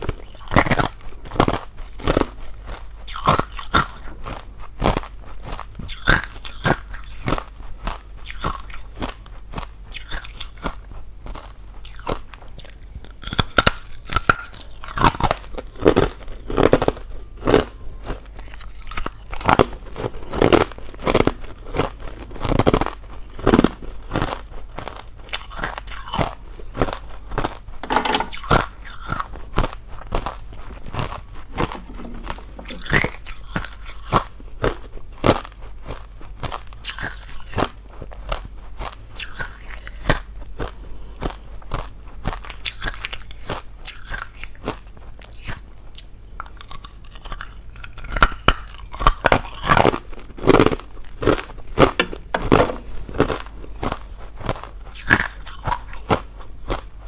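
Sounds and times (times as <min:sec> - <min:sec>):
ice crunching while chewed: 0:00.0 - 0:27.7, 0:28.3 - 0:57.0.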